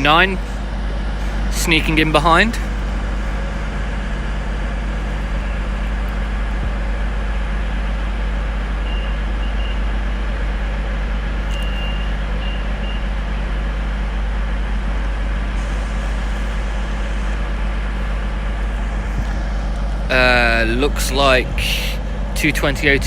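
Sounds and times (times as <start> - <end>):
diesel train idling: 0.0 - 23.0.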